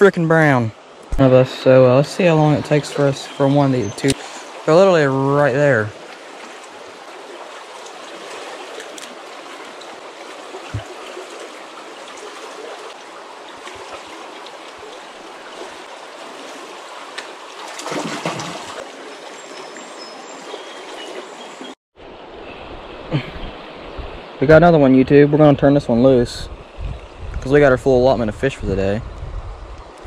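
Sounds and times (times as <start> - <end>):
creek water flowing: 0.0 - 30.0.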